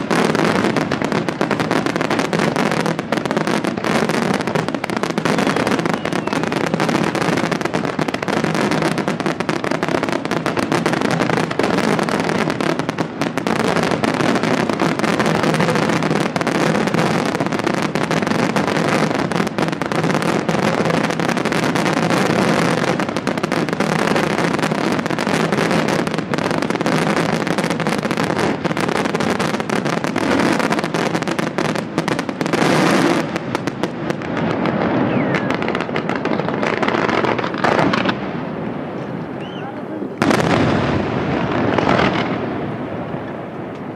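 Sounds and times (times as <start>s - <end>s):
fireworks bangs and crackle: 0.0s - 43.9s.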